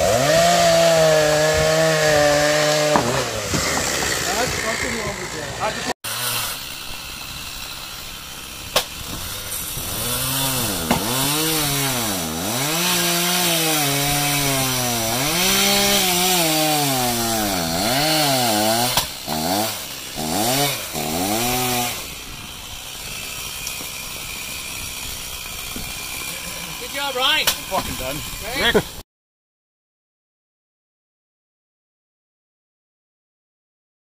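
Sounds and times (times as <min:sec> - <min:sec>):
chainsaw cutting a log: 0:00.0 - 0:29.0
axe splitting firewood: 0:00.1 - 0:28.9.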